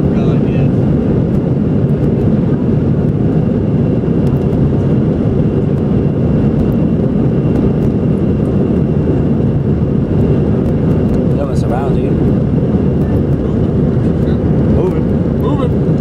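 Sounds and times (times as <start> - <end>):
jet engines rumbling at takeoff: 0.0 - 16.0.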